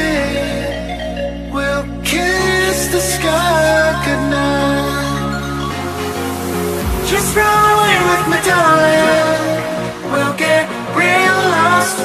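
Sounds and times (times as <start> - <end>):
electronic pop music with singing: 0.0 - 12.0.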